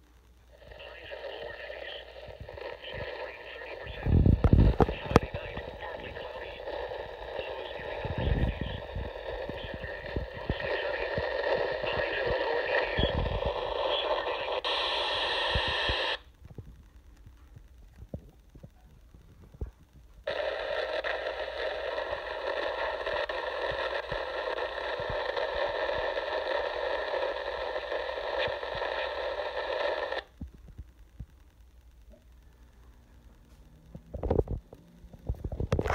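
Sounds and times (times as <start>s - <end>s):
distorted buzzy radio scanner audio: 0.0s - 30.4s, 31.2s - 35.9s.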